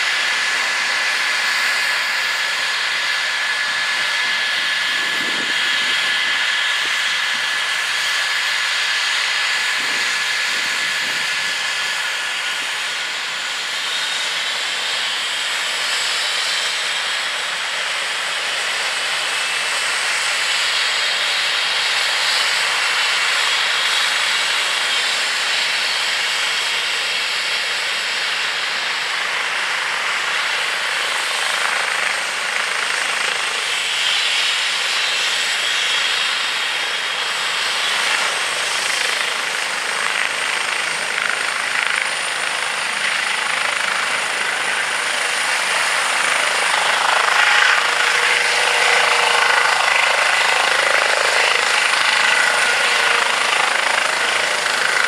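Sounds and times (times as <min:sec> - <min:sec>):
helicopter rotor noise: 0:00.0 - 0:55.0
helicopter turbine whine: 0:00.0 - 0:55.0.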